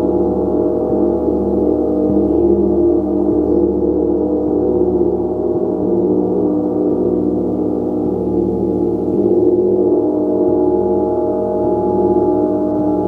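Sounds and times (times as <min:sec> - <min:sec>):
gong ringing: 0:00.0 - 0:13.0.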